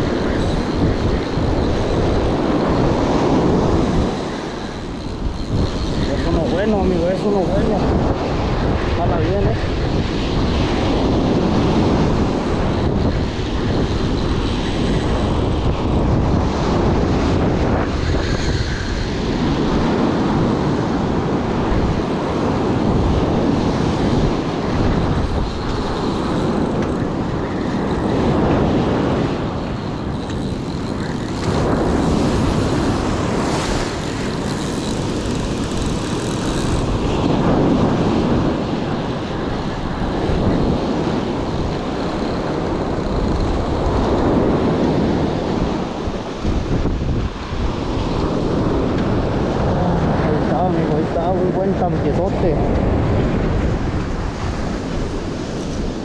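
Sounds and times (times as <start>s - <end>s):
surf on beach: 0.0s - 56.0s
wind buffeting microphone: 0.0s - 56.0s.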